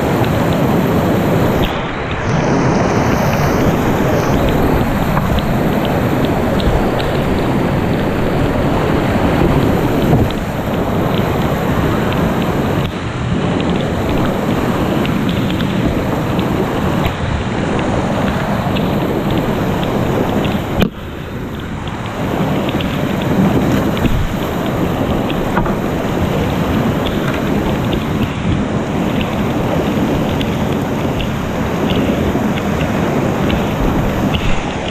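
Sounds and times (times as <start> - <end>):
whitewater rushing: 0.0 - 34.9.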